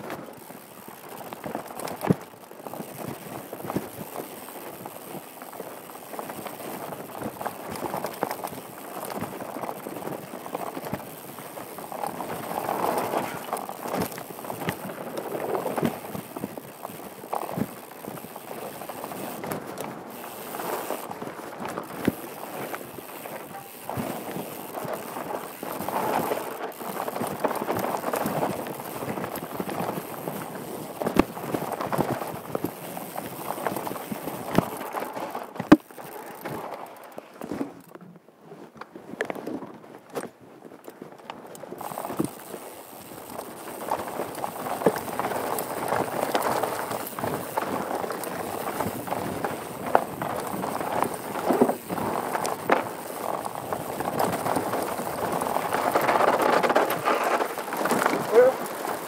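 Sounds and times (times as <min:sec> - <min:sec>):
bike knocking and rattling: 0:00.0 - 0:38.0, 0:38.6 - 0:59.0
bike tyres rumbling on dirt: 0:00.0 - 0:59.0.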